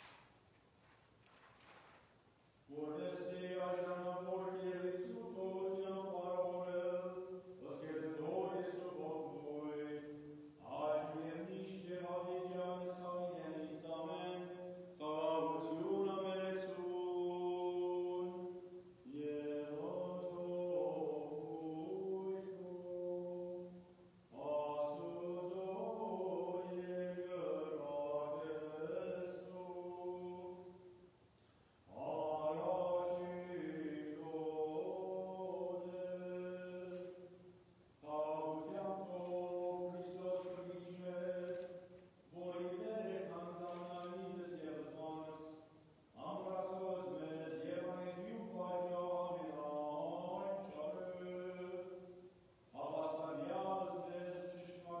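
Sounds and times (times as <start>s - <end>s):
person chanting: 2.7s - 30.9s, 31.9s - 55.0s.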